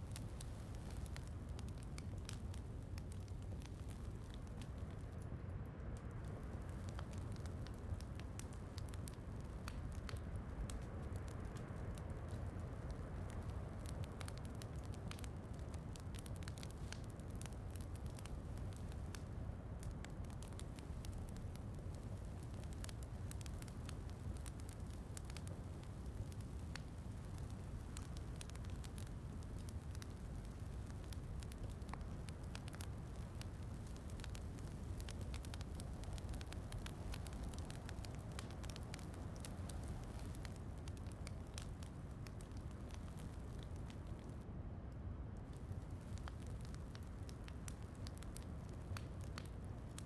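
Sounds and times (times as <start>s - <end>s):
soft falling rain: 0.0s - 50.0s
wood fire crackling and popping: 0.0s - 50.0s.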